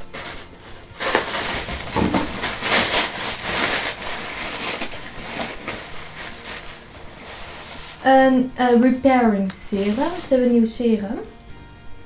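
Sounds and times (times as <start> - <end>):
tissue paper crinkling: 0.0 - 10.8.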